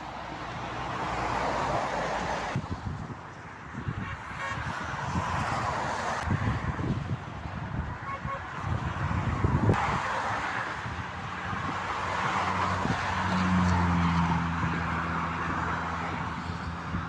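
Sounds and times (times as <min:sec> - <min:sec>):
tyre and road noise: 0:00.0 - 0:17.0.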